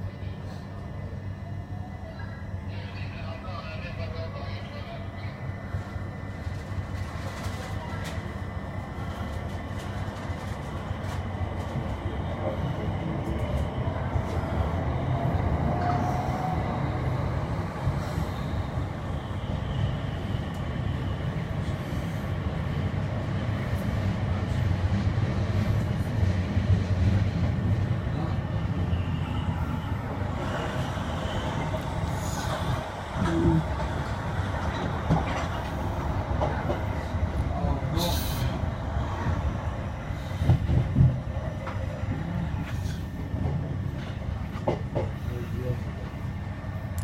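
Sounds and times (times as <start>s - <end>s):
train wheels rumbling: 6.3s - 46.8s.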